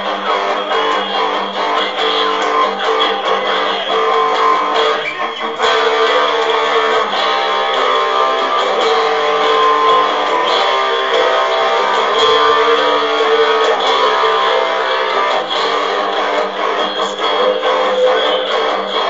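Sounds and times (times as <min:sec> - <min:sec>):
guitar strumming chords: 0:00.0 - 0:19.0.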